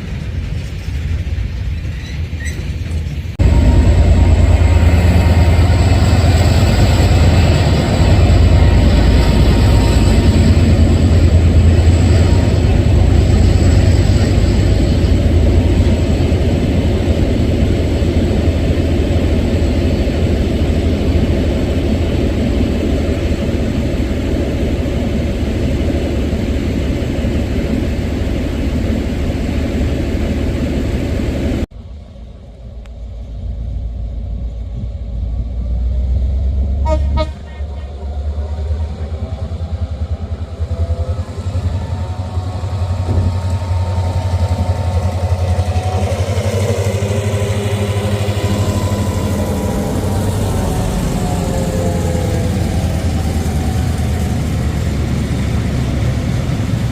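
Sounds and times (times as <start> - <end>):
diesel train engine rumbling: 0.0 - 56.9
quieter rumble: 3.2 - 56.9.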